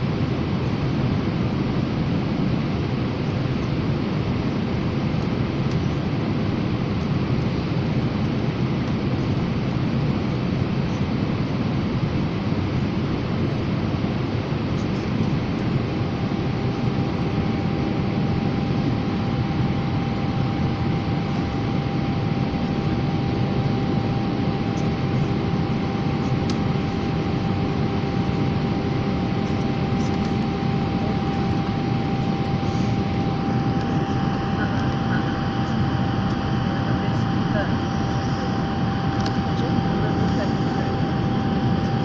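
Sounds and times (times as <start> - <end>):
airplane cabin engine roar: 0.0 - 42.0
thin steady whine: 0.0 - 42.0.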